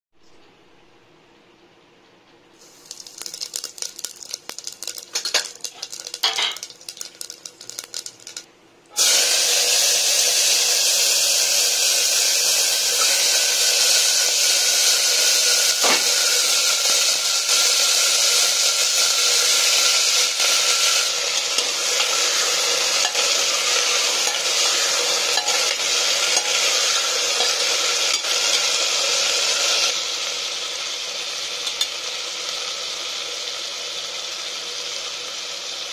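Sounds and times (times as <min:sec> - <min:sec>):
hot oil crackling and spitting: 0:02.6 - 0:35.9
vegetables sizzling in oil: 0:02.6 - 0:35.9.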